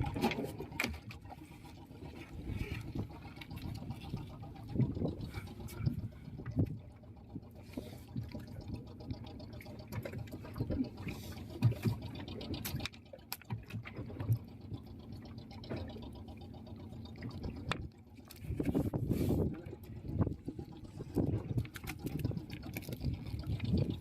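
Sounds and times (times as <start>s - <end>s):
water sloshing and dripping: 0.0s - 24.0s
water splashes: 0.0s - 24.0s.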